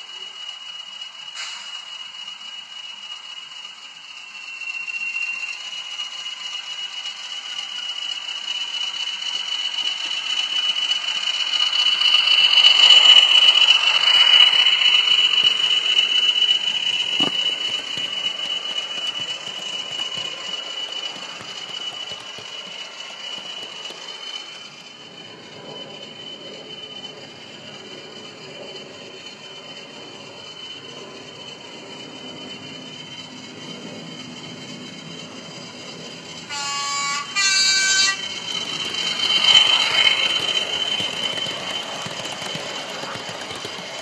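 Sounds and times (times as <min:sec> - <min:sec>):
model train diesel engine sound: 0:00.0 - 0:44.0
wheels rattling on track: 0:00.0 - 0:44.0.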